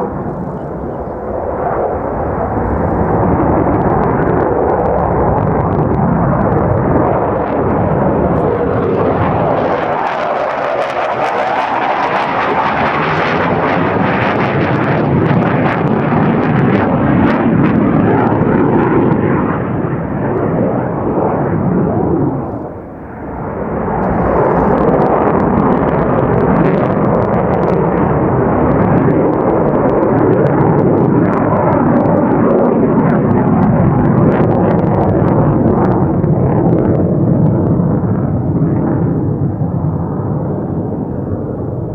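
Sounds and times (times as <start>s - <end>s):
jet fighter roaring past: 0.0s - 41.9s.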